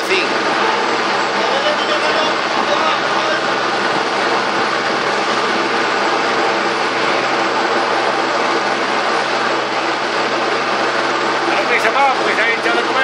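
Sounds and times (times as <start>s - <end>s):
helicopter turbine engine running: 0.0s - 13.0s.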